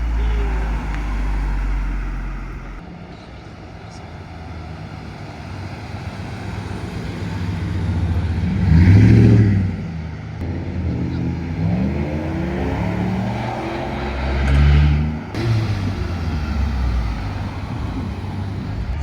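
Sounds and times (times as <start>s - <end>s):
car engine accelerating past: 0.0s - 2.8s, 5.6s - 19.0s.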